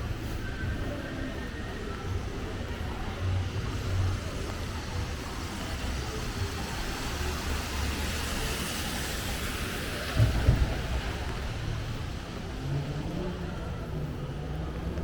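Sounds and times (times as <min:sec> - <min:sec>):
traffic rumble on wet road: 0:00.0 - 0:15.0
car passing with tyre hiss: 0:02.9 - 0:15.0.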